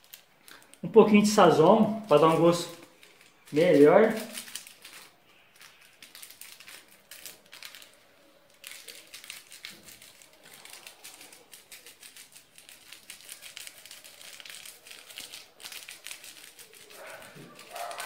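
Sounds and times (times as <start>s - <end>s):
seasoning sachet crinkling: 0.0s - 18.0s.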